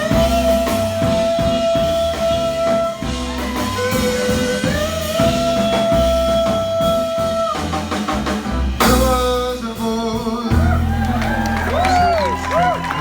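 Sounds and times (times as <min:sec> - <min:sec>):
live jazz band playing: 0:00.0 - 0:13.0.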